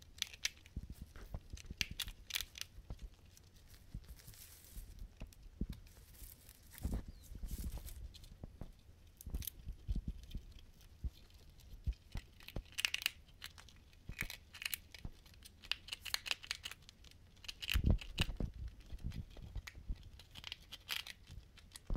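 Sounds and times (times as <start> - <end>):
animals gnawing and crunching: 0.0 - 21.9.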